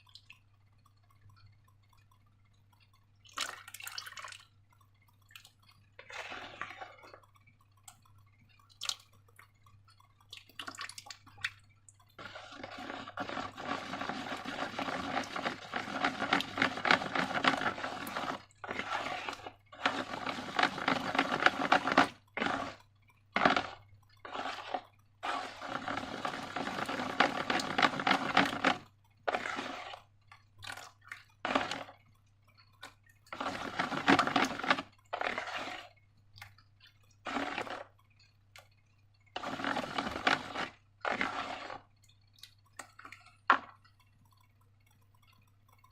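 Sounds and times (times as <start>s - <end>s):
slime squelching: 0.0s - 45.9s.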